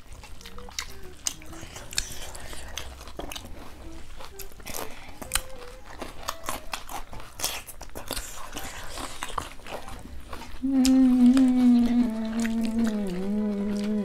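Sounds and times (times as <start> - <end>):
cucumber crunching: 0.0 - 14.0
person humming mmm: 0.0 - 14.0.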